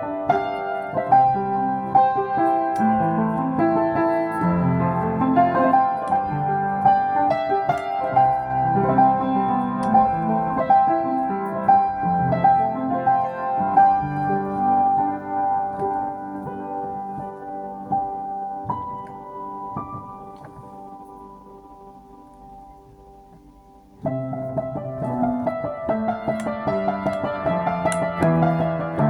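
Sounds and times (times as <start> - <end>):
slow gentle piano piece: 0.0 - 29.0.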